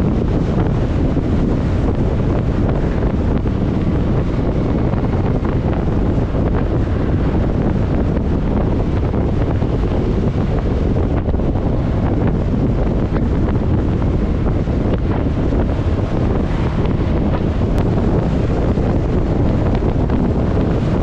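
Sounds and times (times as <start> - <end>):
road noise: 0.0 - 21.0
wind rushing over microphone: 0.0 - 21.0.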